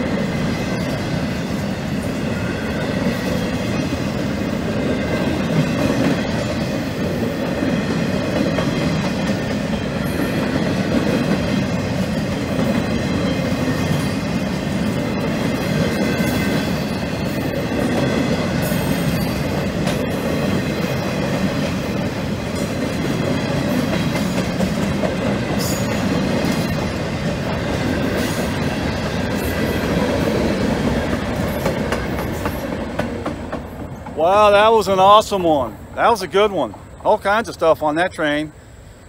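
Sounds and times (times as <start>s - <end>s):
steel wheels rumbling on rails: 0.0s - 37.7s.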